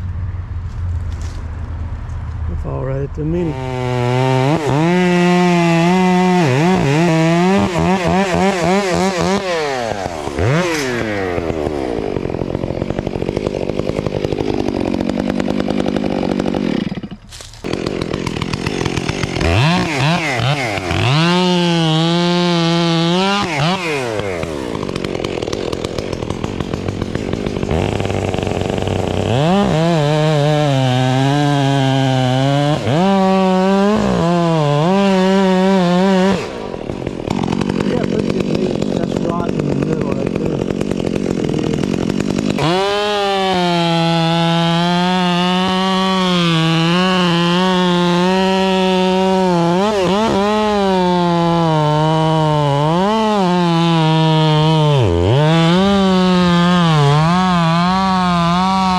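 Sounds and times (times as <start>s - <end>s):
chainsaw cutting wood: 3.2s - 58.9s.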